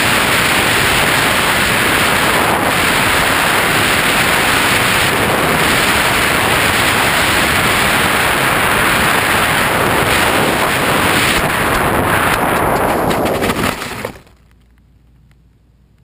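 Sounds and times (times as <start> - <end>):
wind rushing over microphone: 0.0 - 14.2.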